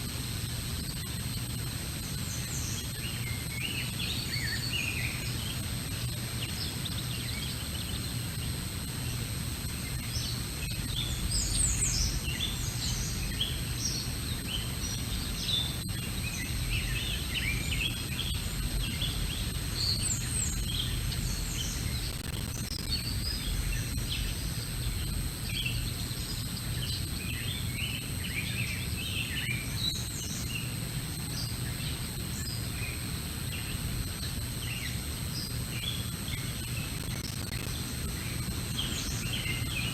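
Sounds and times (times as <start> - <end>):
faint high whine: 0.0 - 39.9
songbirds chirping: 0.4 - 39.9.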